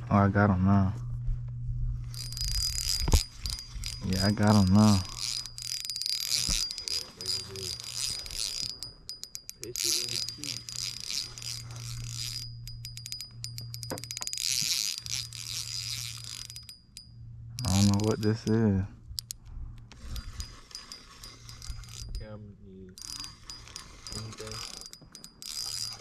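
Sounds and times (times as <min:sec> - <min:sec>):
fishing reel whirring and clicking: 0:02.0 - 0:26.0.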